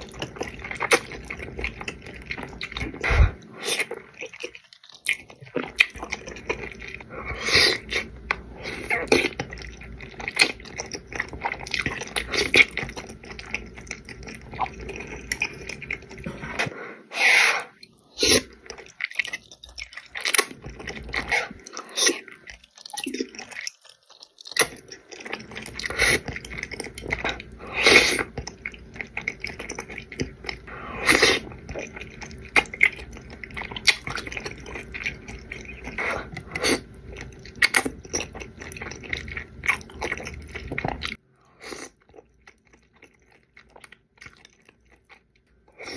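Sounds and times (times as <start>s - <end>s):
person chewing noodles: 0.0s - 45.9s
wet mouth noises: 0.0s - 45.9s.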